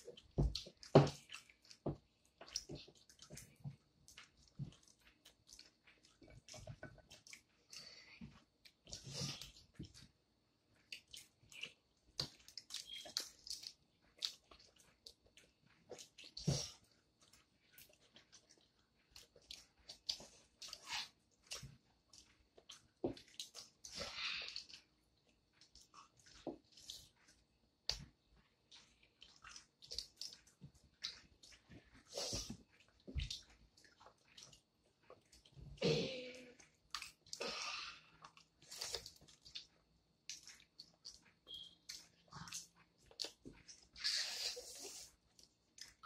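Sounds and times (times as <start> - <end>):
chewing: 0.0 - 46.0.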